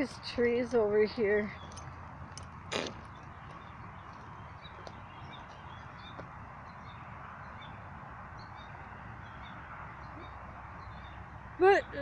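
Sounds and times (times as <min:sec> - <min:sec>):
birds chirping: 0:00.0 - 0:12.0
outdoor background hiss: 0:00.0 - 0:12.0.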